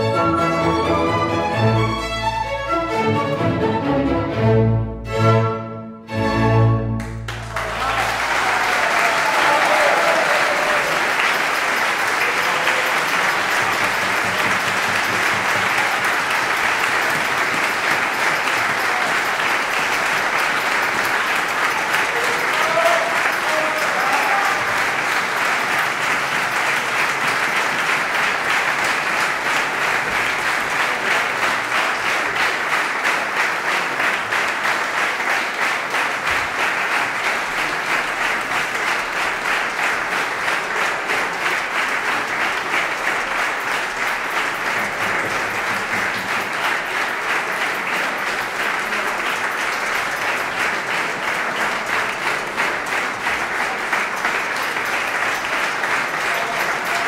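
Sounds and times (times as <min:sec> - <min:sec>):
audience applauding: 0:07.0 - 0:57.0.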